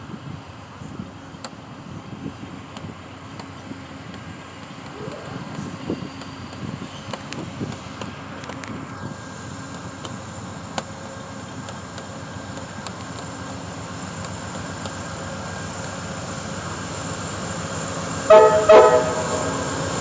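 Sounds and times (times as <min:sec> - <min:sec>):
diesel locomotive running: 0:00.0 - 0:20.0.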